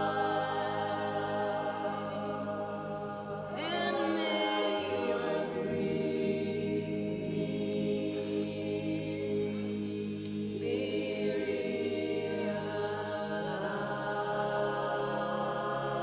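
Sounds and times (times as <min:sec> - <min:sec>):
choral chant-like sustained chords: 0:00.0 - 0:16.0.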